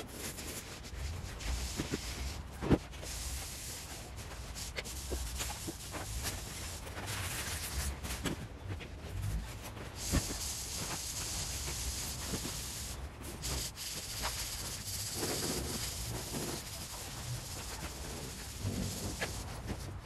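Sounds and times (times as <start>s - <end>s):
steady hiss: 0.0s - 8.4s, 9.8s - 20.0s
foam pieces rubbing and scraping: 0.0s - 20.0s.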